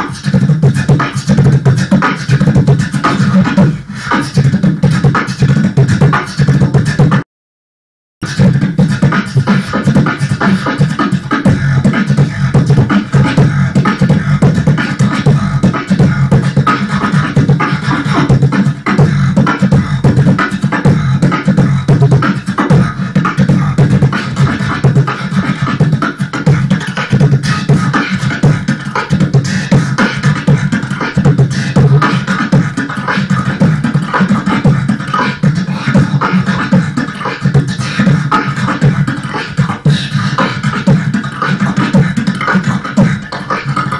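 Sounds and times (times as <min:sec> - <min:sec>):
beatboxing into microphone: 0:00.0 - 0:07.2, 0:08.2 - 0:43.9.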